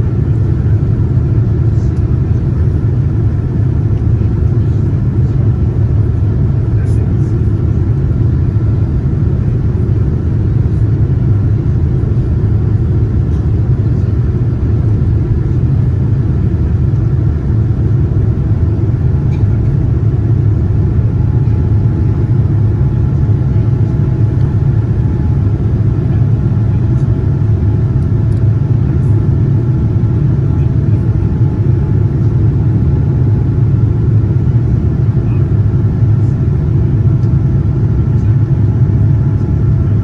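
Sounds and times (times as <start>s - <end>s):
faint steady hums: 0.0s - 40.0s
jet engine rumble in cabin: 0.0s - 40.0s.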